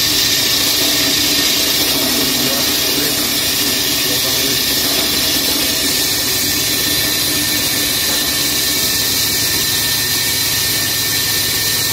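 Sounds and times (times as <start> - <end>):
concrete saw running: 0.0 - 11.9.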